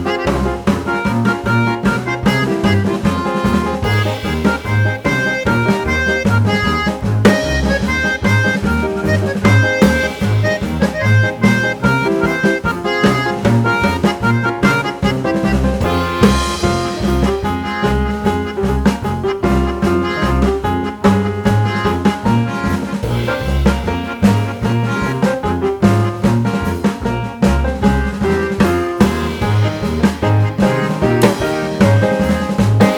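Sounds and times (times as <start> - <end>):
instrumental background music: 0.0 - 32.9.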